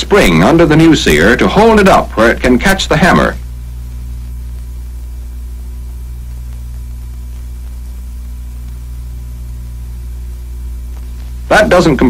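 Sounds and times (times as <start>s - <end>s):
background hiss: 0.0s - 12.0s
electrical hum: 0.0s - 12.0s.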